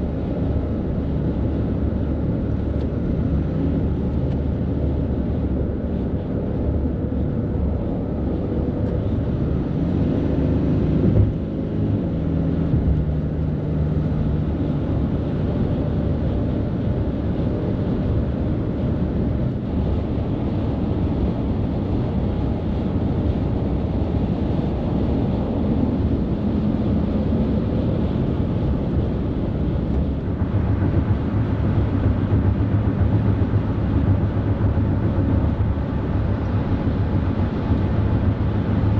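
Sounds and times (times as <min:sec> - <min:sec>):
highway traffic rumble: 0:00.0 - 0:38.9
truck engine drone: 0:00.0 - 0:38.9.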